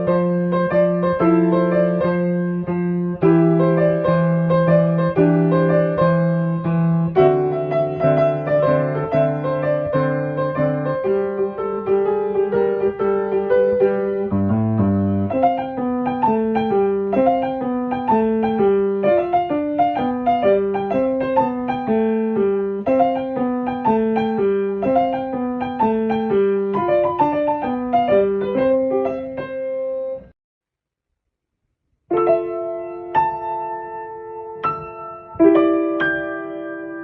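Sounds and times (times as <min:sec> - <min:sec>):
piano music: 0:00.0 - 0:30.4, 0:32.1 - 0:37.0.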